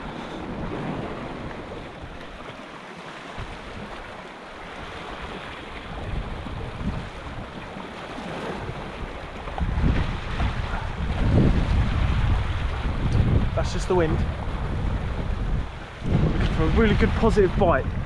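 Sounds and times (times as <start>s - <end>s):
wind buffeting microphone: 0.0s - 2.6s, 3.3s - 18.0s
waves washing against rocks: 0.0s - 18.0s.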